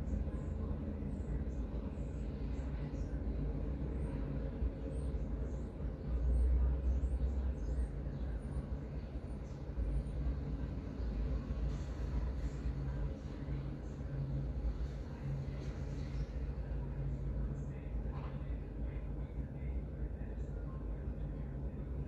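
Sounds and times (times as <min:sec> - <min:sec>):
laptop cooling fans whirring: 0:00.0 - 0:22.0.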